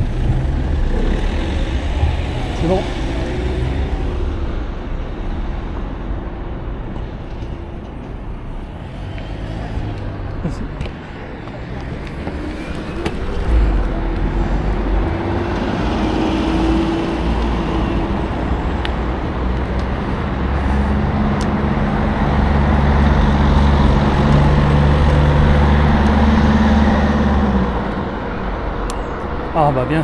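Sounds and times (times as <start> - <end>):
vehicle engine hum: 0.0 - 30.0
wind and road noise: 0.0 - 30.0.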